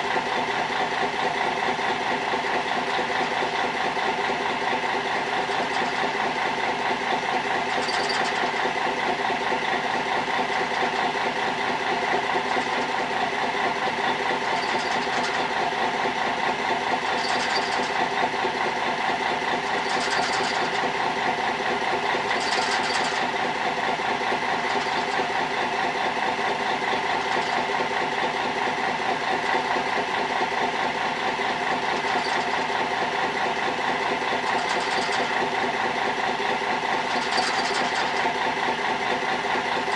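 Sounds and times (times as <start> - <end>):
boat engine idling: 0.0 - 39.9.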